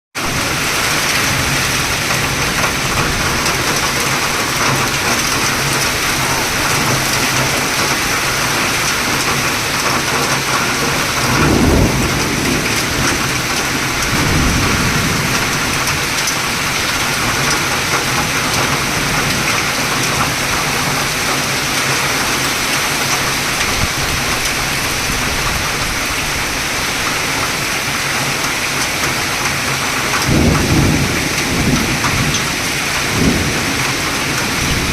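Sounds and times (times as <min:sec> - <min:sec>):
low rumbles of thunder: 0:00.2 - 0:27.7, 0:29.0 - 0:34.9
heavy rain pouring: 0:00.2 - 0:34.9.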